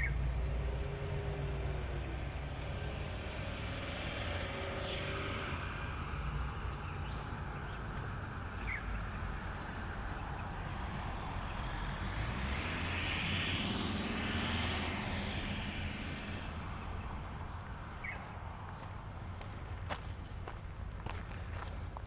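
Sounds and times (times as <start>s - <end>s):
vehicle passing by: 0.0s - 21.9s.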